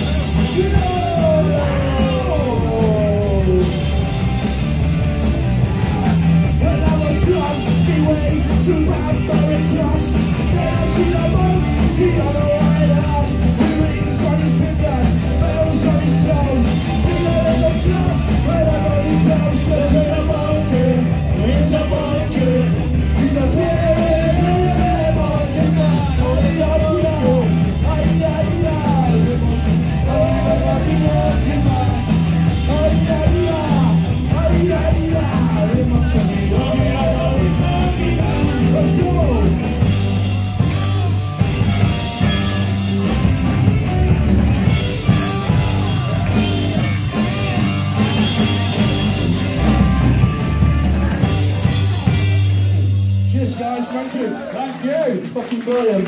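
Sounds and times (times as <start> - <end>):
live band playing ska: 0.0 - 53.7.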